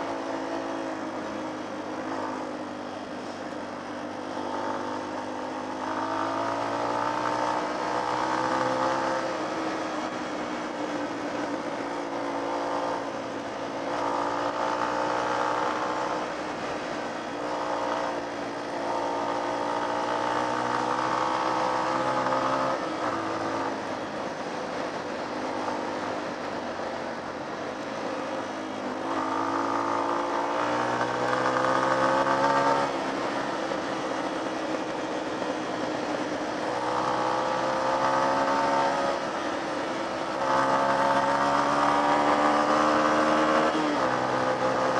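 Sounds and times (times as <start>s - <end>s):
motorcycle engine revving: 0.0s - 27.1s, 27.7s - 44.9s.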